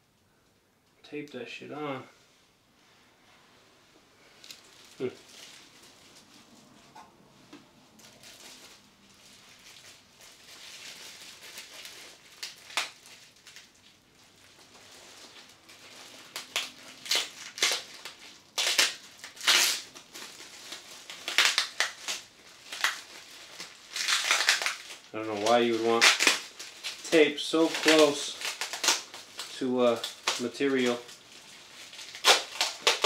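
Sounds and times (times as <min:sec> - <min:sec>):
plastic wrap crinkling: 0:04.3 - 0:07.0, 0:07.9 - 0:33.0.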